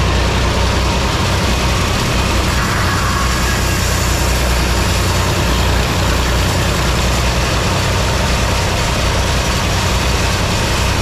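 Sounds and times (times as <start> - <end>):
band saw cutting wood: 0.4 - 9.6.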